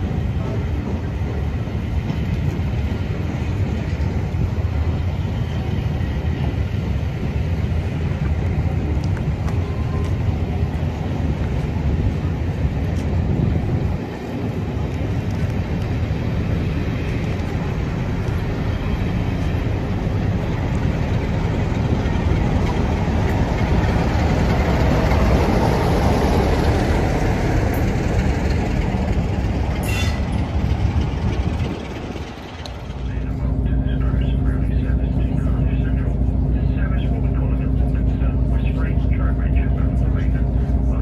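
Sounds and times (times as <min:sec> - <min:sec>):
train wheels clickety-clack: 0:00.0 - 0:34.2
diesel locomotive passing: 0:00.0 - 0:41.0.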